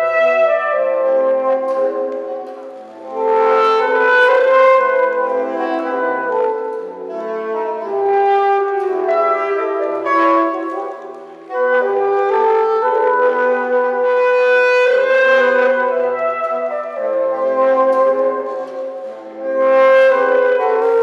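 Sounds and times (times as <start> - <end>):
saxophone ensemble playing: 0.0 - 21.0.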